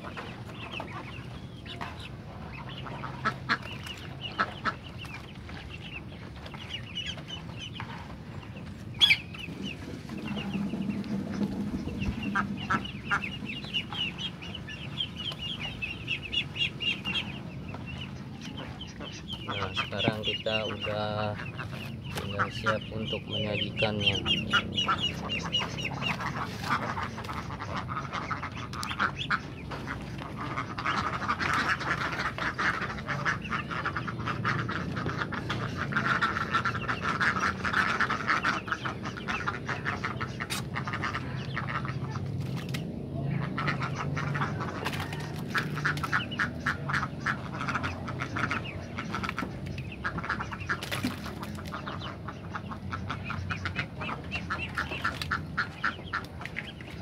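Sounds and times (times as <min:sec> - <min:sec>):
ducks quacking: 0:00.0 - 0:57.0.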